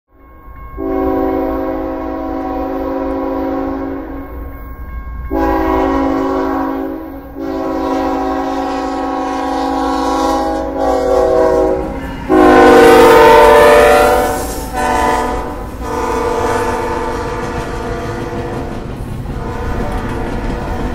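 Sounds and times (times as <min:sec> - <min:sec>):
low rumble of moving train: 0:00.1 - 0:20.9
train air horn blasts: 0:00.8 - 0:04.3, 0:05.3 - 0:18.8, 0:19.4 - 0:20.9.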